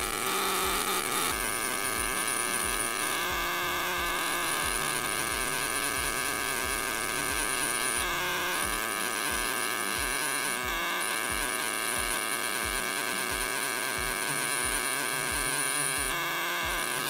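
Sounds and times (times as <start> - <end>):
background music with beat: 0.0 - 17.0
polishing handpiece buzzing: 0.0 - 17.0.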